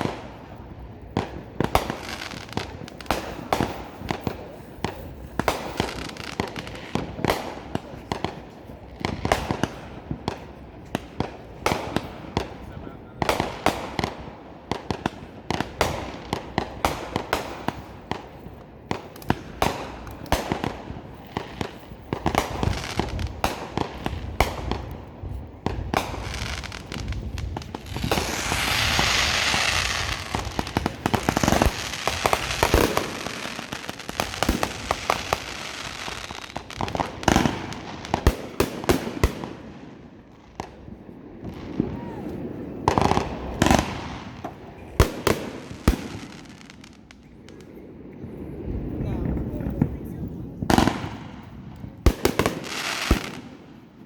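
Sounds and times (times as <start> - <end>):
fireworks bangs and pops: 0.0 - 54.0
fireworks hissing crackle: 0.0 - 54.0.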